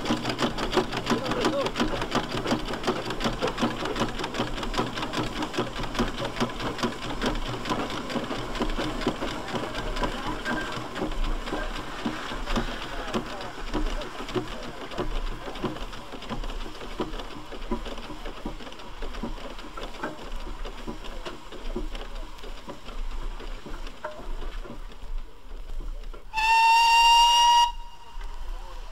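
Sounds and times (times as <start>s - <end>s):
steam traction engine running: 0.0s - 28.9s.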